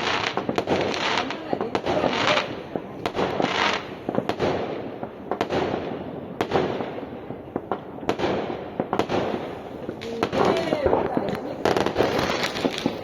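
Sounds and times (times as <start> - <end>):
fireworks banging: 0.0 - 13.0
fireworks crackling: 0.0 - 13.0.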